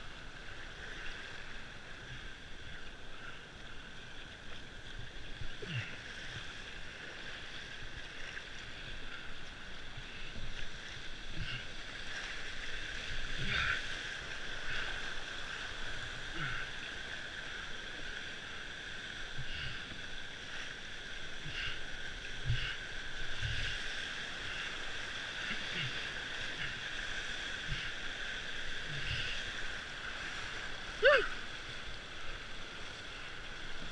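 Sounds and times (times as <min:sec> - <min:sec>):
rushing whitewater: 0:00.0 - 0:33.9.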